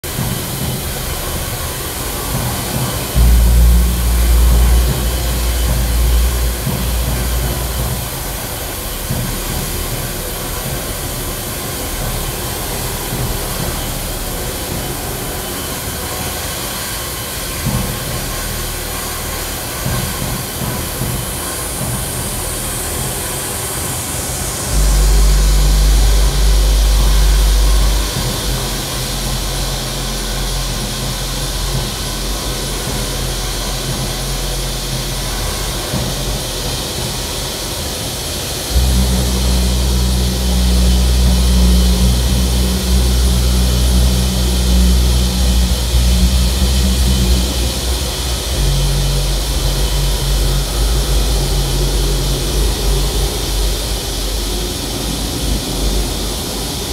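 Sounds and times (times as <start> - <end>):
deep low hum: 0.0 - 37.5, 38.6 - 56.9
static hiss: 0.0 - 56.9.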